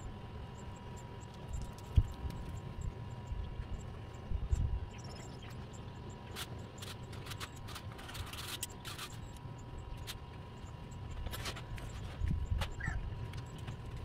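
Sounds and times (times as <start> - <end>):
faint steady tone: 0.0 - 14.0.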